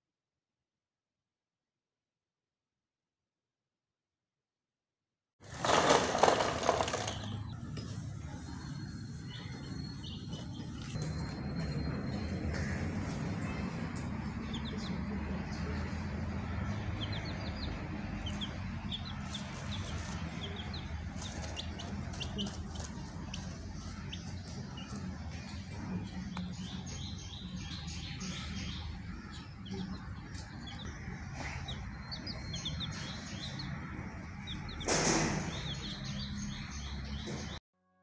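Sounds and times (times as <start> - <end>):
baby chicks peeping: 5.6 - 37.6.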